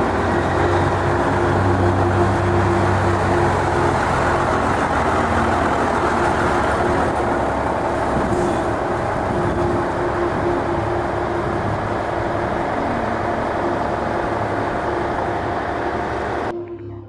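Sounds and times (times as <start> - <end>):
truck diesel engine running: 0.0 - 16.5
low hum: 0.0 - 17.0.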